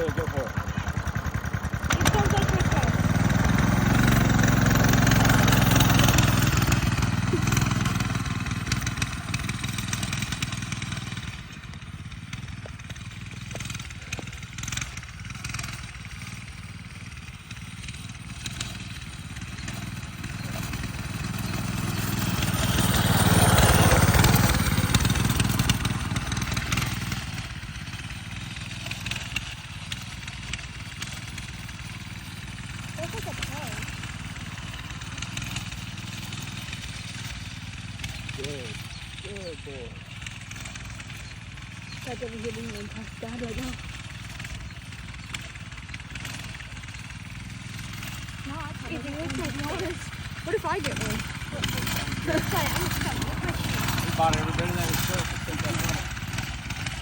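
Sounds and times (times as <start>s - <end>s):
minibike engine passing: 0.0s - 57.0s.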